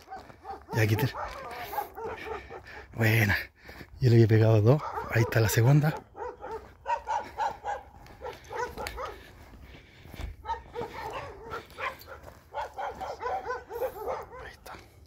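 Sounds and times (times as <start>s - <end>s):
dog barking and yipping: 0.0s - 3.1s, 4.6s - 9.6s, 10.4s - 14.8s.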